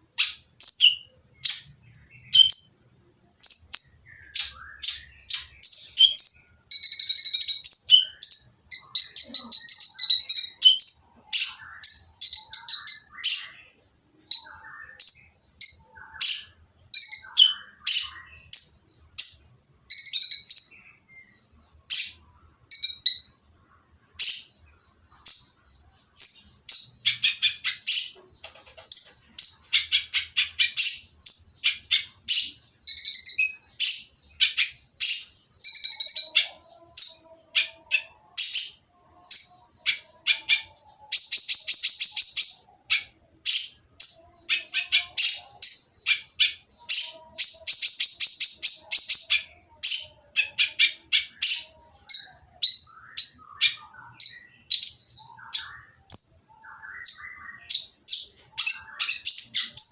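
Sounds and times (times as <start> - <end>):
sunbird chirping and trilling: 0.0 - 59.9.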